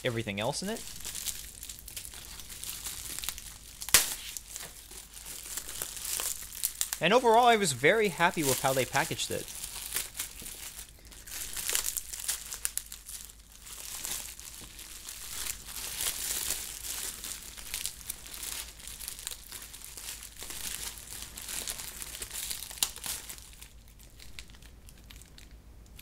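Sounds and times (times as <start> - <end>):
bubble wrap and plastic crinkling: 0.0 - 26.0.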